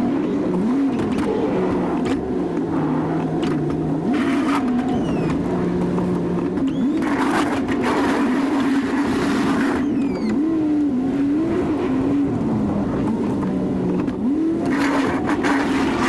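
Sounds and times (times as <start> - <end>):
pickup engine revving: 0.0 - 16.0.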